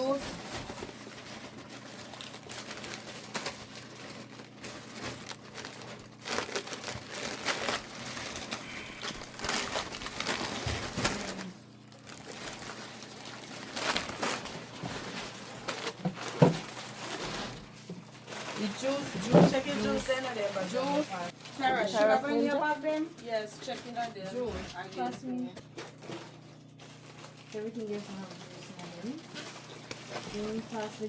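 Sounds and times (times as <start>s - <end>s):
bags rustling and crinkling: 0.0s - 31.0s.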